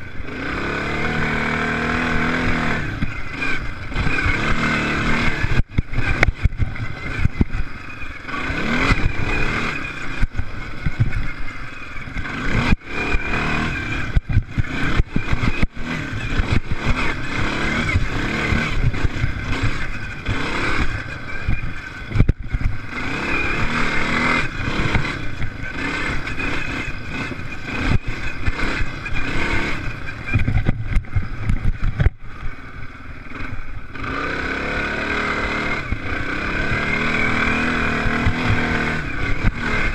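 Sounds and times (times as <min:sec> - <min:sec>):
racing engines revving: 0:00.0 - 0:39.9.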